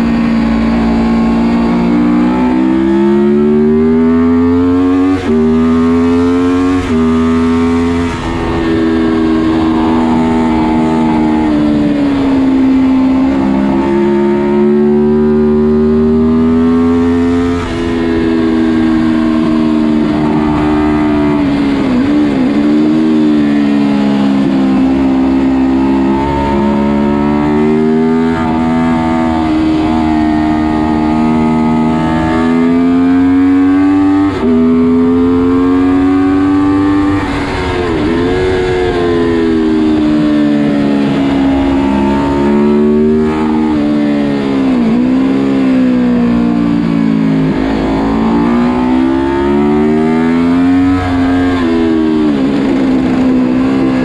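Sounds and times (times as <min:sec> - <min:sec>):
motorcycle engine revving with upshifts: 0:00.0 - 0:54.0.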